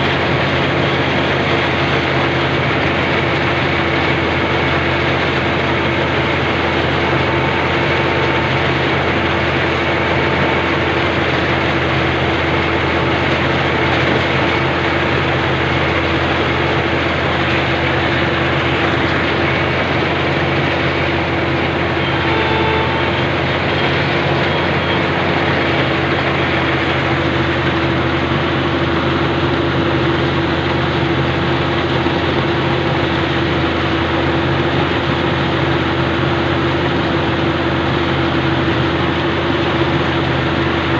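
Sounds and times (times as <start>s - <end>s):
combine harvester engine hum: 0.0s - 40.9s
mid-pitched machinery whine: 0.0s - 40.9s.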